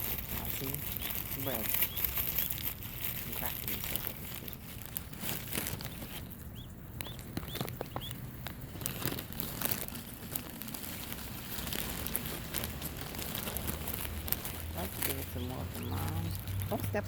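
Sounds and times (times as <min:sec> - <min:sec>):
bread bag crinkling: 0:00.0 - 0:17.0.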